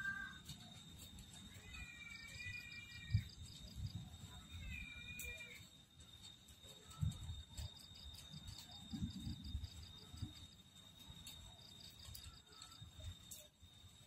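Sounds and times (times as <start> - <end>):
insect trill: 0.0 - 14.0
pulsing insect chirp: 0.0 - 14.0.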